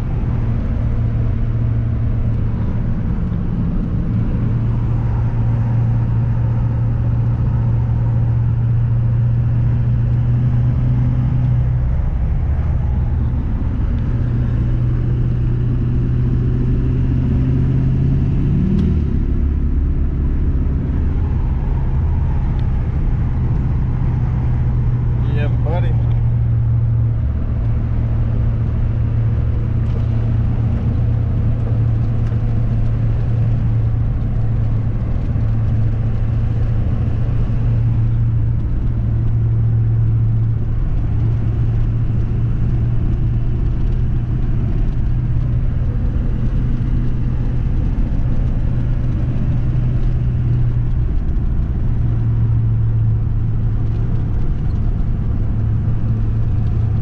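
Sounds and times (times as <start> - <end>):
vehicle engine and road drone: 0.0 - 57.0.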